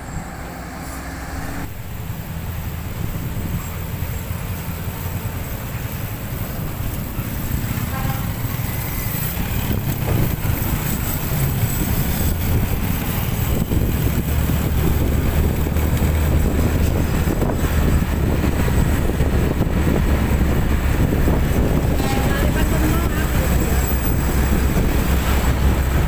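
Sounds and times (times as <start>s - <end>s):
road and wind noise: 0.0s - 26.0s
vehicle engines rumbling: 0.0s - 26.0s.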